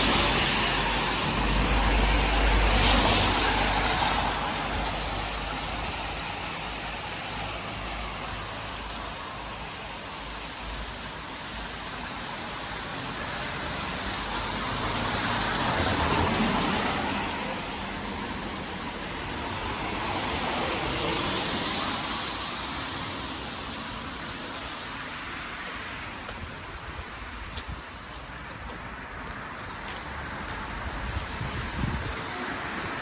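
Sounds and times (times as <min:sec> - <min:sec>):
vehicles passing: 0:00.0 - 0:33.0.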